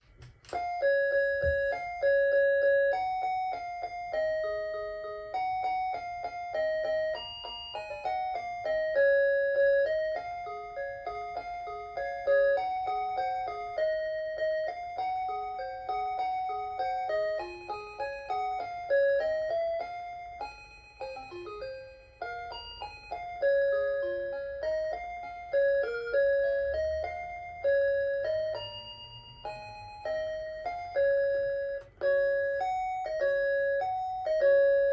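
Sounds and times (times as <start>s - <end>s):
alarm clock electronic melody: 0.5s - 34.9s.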